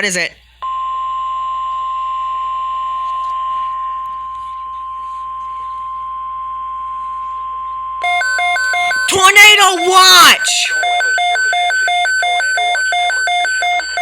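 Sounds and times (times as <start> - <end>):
steady high alarm tone: 0.6 - 14.0.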